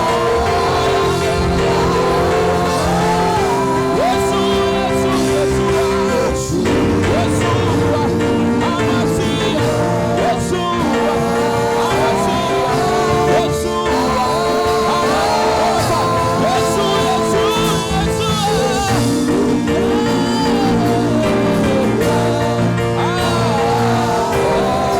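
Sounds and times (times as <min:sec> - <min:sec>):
held chords: 0:00.0 - 0:24.9
person singing: 0:00.0 - 0:24.9
steady bass line: 0:00.0 - 0:24.9.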